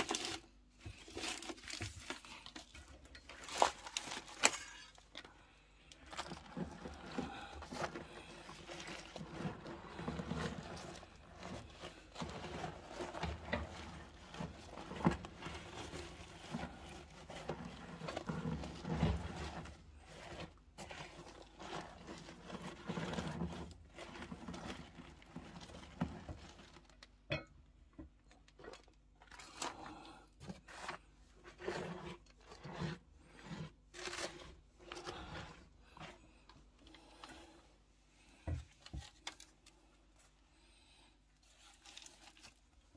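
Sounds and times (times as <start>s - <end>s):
objects scraping and knocking: 0.0s - 42.9s.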